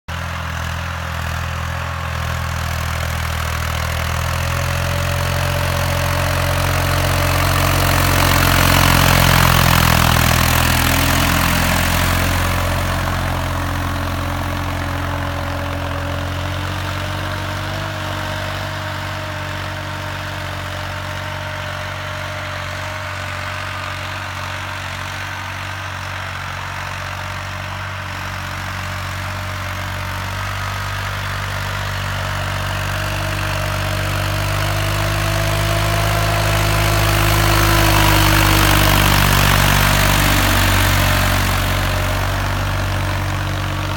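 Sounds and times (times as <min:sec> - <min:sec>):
tractor diesel engine running: 0:00.1 - 0:43.9.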